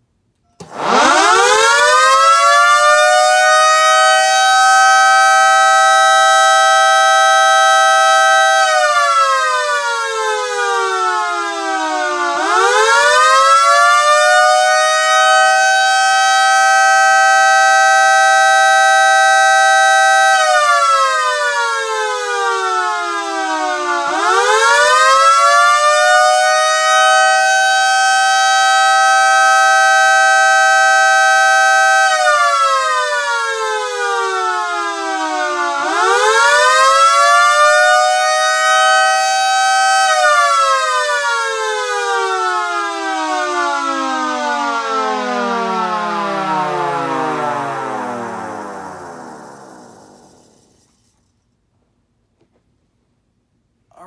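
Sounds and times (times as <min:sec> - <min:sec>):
air raid siren wailing: 0:00.6 - 0:50.9.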